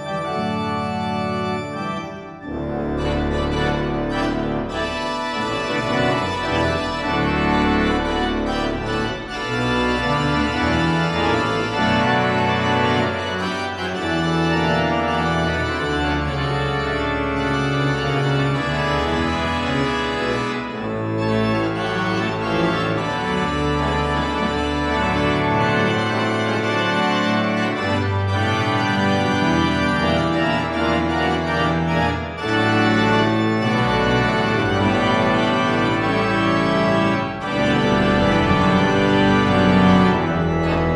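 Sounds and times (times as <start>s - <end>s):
church organ playing chords: 0.0s - 40.9s.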